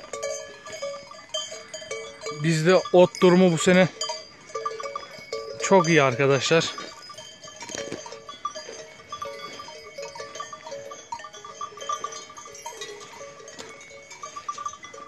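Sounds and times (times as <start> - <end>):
livestock bells clanking: 0.0 - 15.0.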